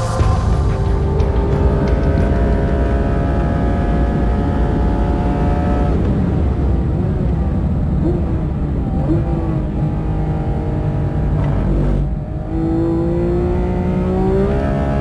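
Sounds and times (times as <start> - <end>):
sports car engine running hard: 0.0 - 15.0.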